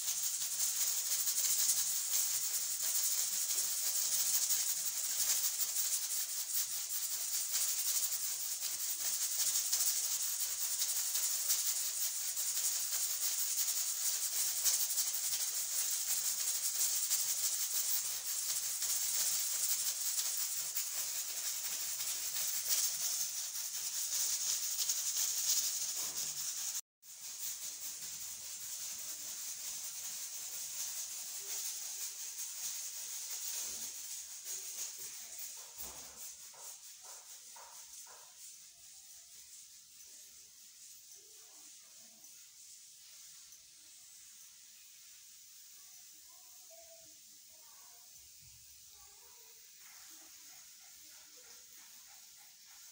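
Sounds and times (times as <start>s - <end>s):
pressure cooker hissing: 0.0s - 38.2s, 41.2s - 52.9s.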